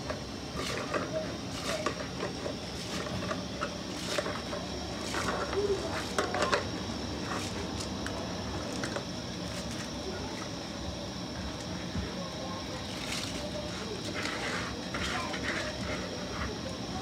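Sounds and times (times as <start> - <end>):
rice clicking and pattering: 0.0 - 10.2, 12.6 - 17.0
steady low hum: 0.0 - 17.0.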